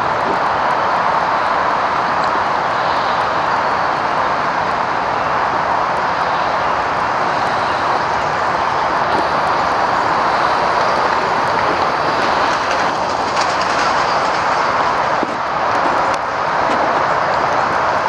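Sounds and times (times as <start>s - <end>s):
loud rushing noise: 0.0s - 18.0s.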